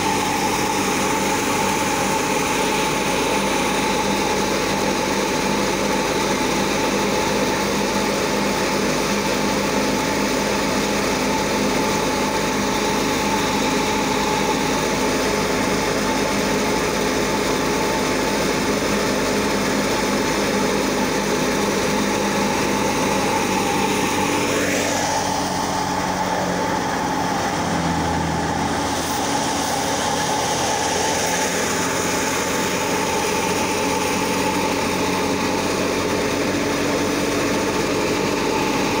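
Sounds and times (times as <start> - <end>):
thresher mechanical drone: 0.0 - 39.0.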